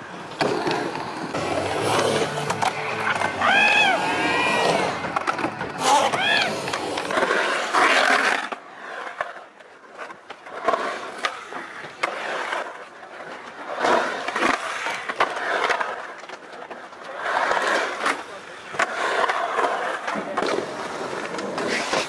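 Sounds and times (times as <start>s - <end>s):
skateboard wheels rolling on concrete: 0.0s - 22.0s
skateboard trucks knocking coping: 0.1s - 22.0s.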